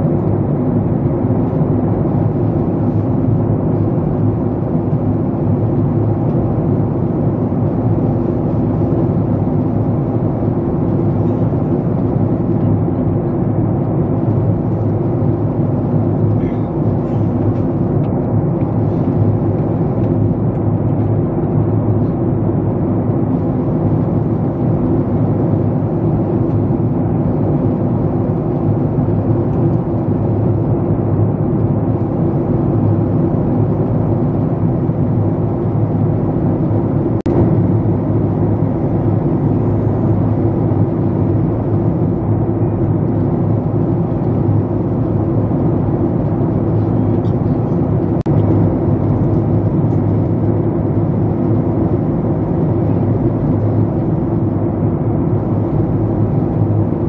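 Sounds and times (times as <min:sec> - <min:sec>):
airliner cabin engine rush: 0:00.0 - 0:57.0.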